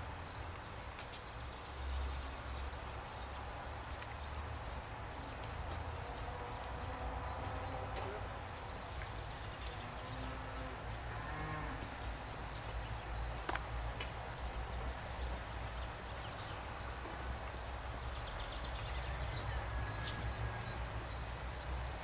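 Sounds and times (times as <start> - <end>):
wheels rumbling on wet asphalt: 0.0 - 22.0.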